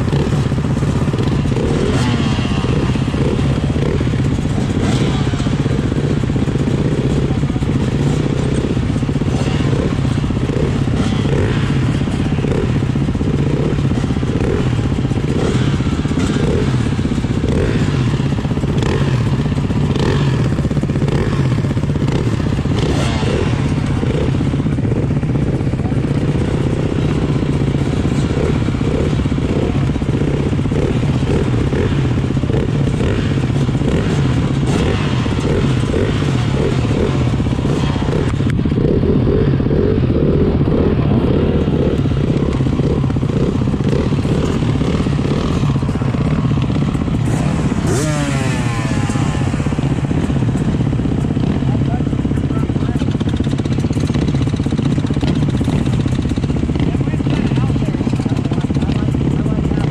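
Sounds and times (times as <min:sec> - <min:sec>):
dirt bikes idling: 0:00.0 - 0:59.9
motorcycle engine idling: 0:00.0 - 0:59.9.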